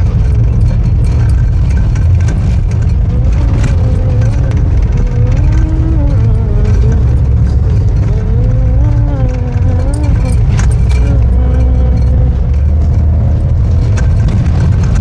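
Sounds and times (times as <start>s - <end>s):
car engine and road noise: 0.0s - 15.0s
wavering whine: 0.0s - 15.0s.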